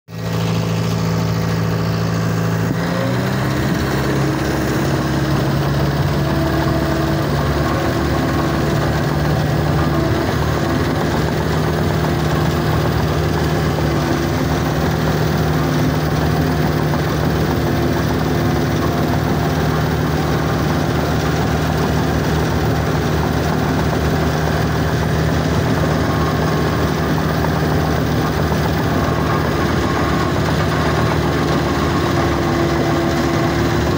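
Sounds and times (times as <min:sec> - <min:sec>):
dozer diesel engine revving: 0:00.1 - 0:33.9.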